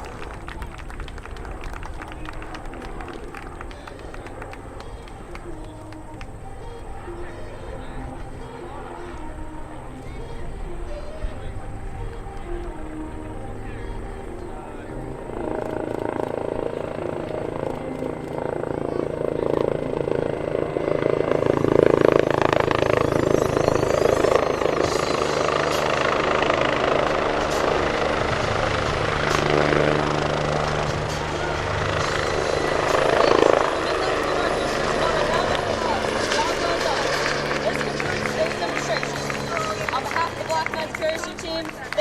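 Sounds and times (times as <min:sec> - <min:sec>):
aircraft engine noise: 0:00.0 - 0:42.0.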